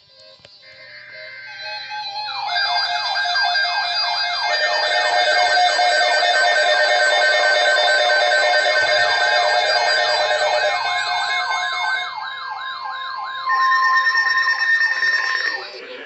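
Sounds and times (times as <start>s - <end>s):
steady alarm tones: 0.0s - 16.0s
wavering alarm warbles: 0.0s - 16.0s
rising siren sweeps: 0.1s - 16.0s.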